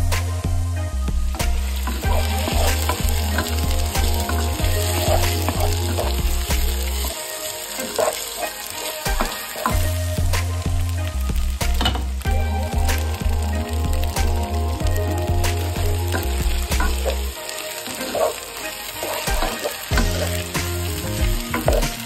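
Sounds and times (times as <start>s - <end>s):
background music with bass: 0.0s - 22.0s
vegetables sizzling in a pan: 1.4s - 22.0s
wooden spatula scraping: 1.4s - 22.0s.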